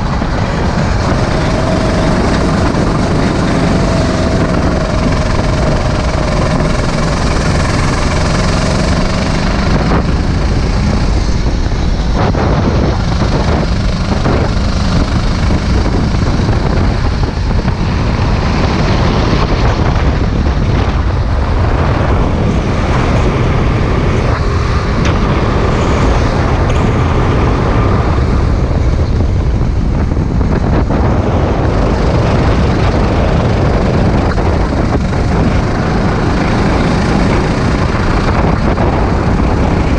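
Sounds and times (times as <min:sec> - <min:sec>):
kart engine running: 0:00.0 - 0:39.9
wind buffeting on microphone: 0:00.0 - 0:39.9.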